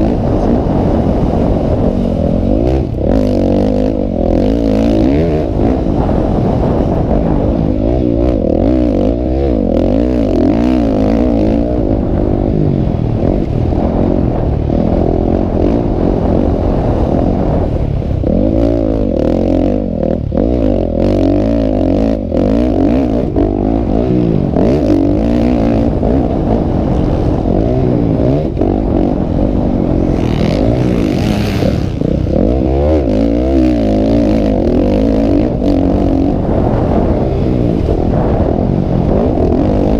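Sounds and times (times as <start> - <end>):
motocross motorcycle engines revving: 0.0 - 39.9.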